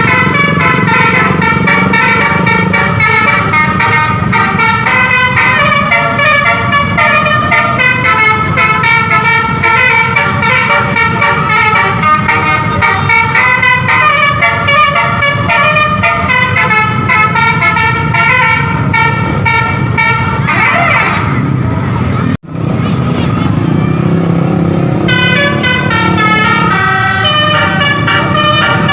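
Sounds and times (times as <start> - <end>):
bus musical horn playing a tune: 0.0 - 21.4, 25.0 - 28.9.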